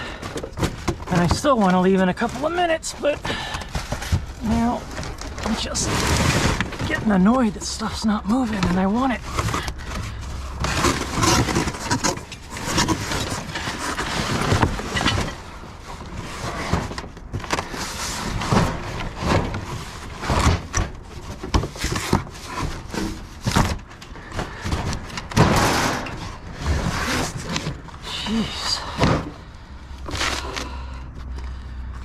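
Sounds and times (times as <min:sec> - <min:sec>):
scrap metal scraping and clanking: 0:00.0 - 0:07.9, 0:08.5 - 0:30.7.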